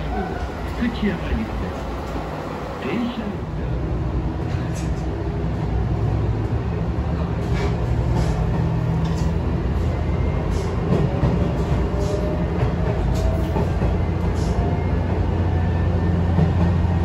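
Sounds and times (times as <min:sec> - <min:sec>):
train engine rumble: 0:00.0 - 0:17.0.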